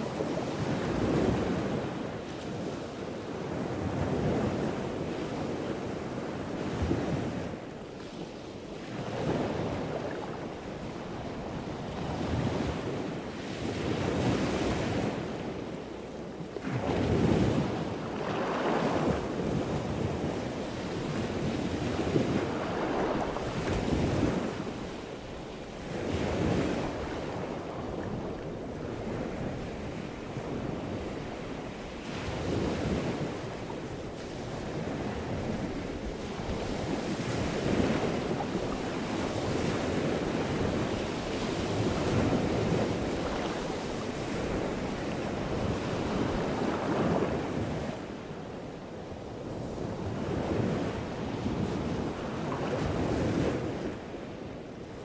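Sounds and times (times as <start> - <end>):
ocean surf on beach: 0.0 - 55.0
wind on microphone: 0.0 - 55.0.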